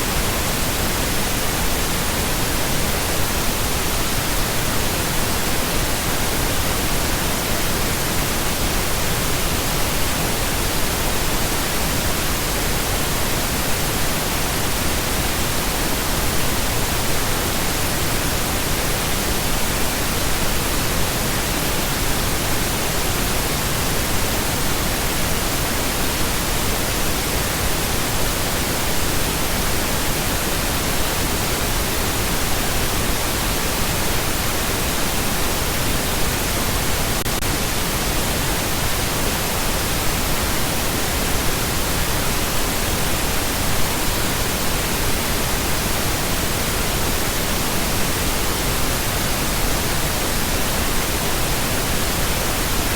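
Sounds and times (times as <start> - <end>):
pink noise hiss: 0.0 - 52.9.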